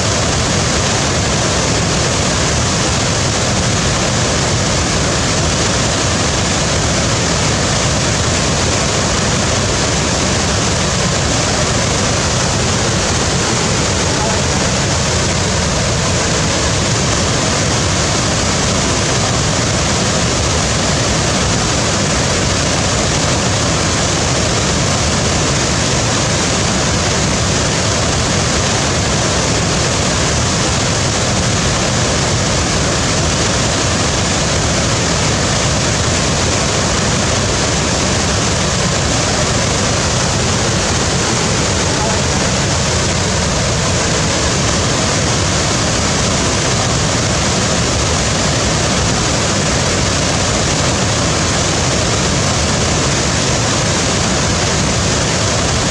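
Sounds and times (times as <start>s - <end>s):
waterfall roaring: 0.0s - 55.9s.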